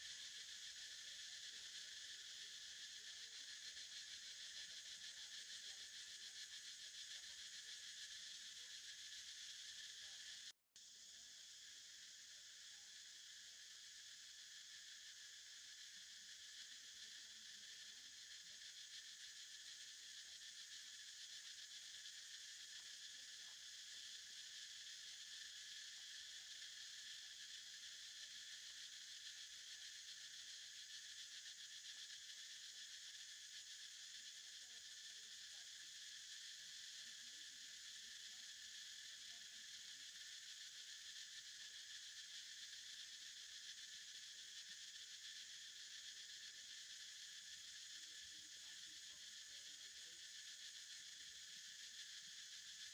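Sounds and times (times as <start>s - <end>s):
insects droning in trees: 0.0s - 52.9s.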